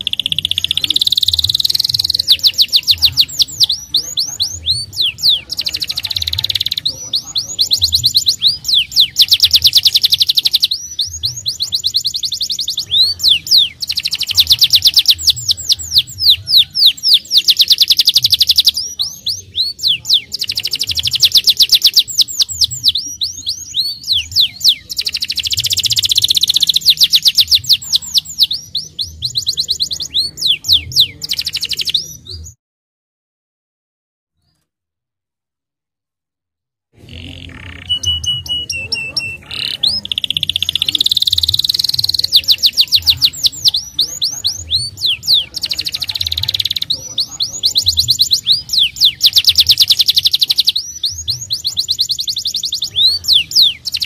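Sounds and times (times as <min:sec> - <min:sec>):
canary trilling: 0:00.0 - 0:32.6, 0:37.0 - 0:54.0.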